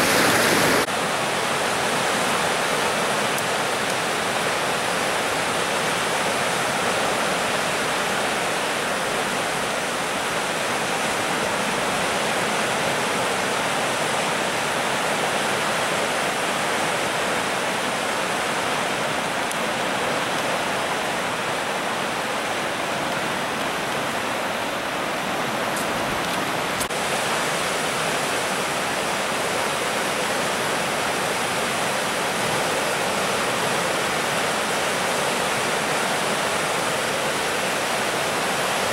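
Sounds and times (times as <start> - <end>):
floodwater rushing through rapids: 0.0 - 38.9.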